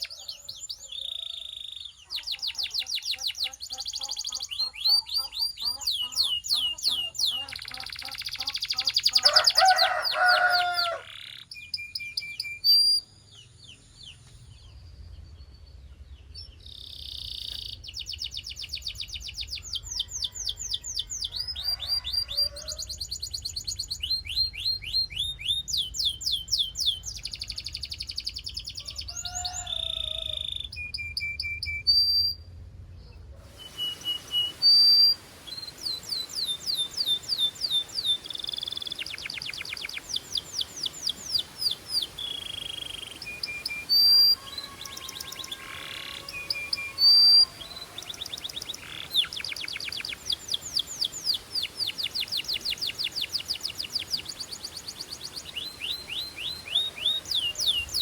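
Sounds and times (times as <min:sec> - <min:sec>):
canary singing trills: 0:00.0 - 0:13.1, 0:15.7 - 0:32.5, 0:33.5 - 0:58.0.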